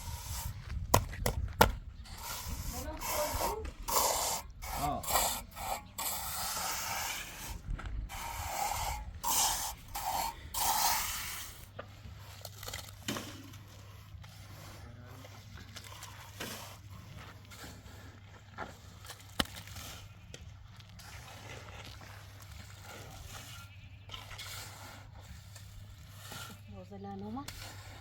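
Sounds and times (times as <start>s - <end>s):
rough scraping strokes: 0.0s - 1.0s, 2.0s - 28.0s.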